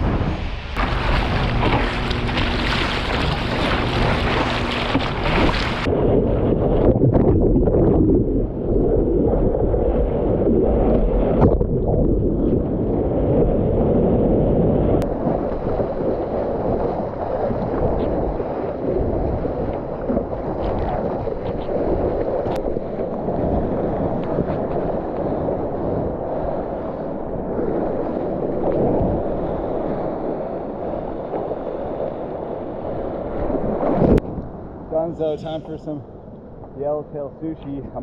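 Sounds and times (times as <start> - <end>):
muffled roar of surf and wind: 0.0 - 38.0.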